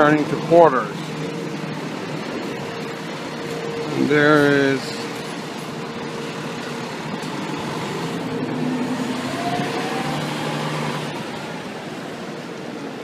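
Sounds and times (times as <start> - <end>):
city street noise: 0.0 - 13.0
fire engine diesel engine: 0.0 - 13.0.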